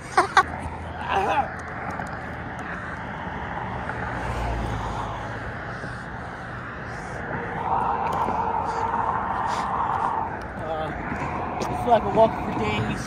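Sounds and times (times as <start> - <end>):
highway traffic noise: 0.0 - 13.0
vehicle passing: 0.0 - 13.0.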